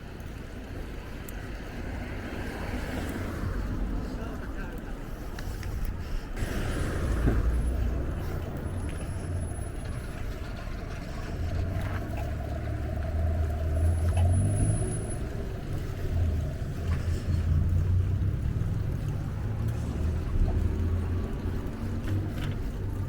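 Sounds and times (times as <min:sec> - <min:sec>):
bicycle tyres on path: 0:00.0 - 0:23.0.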